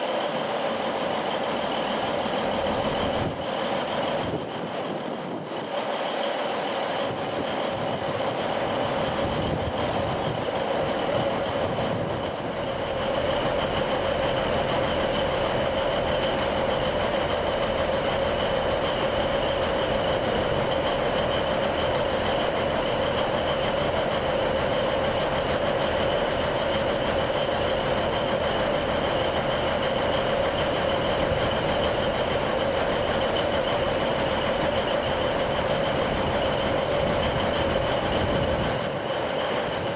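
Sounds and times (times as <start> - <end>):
train rumble: 0.0 - 39.9
train whine: 0.0 - 39.9.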